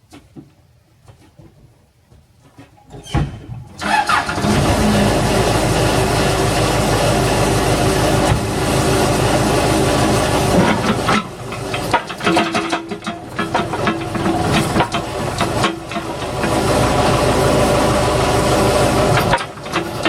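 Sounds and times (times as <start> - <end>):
diesel engine running: 3.8 - 20.0.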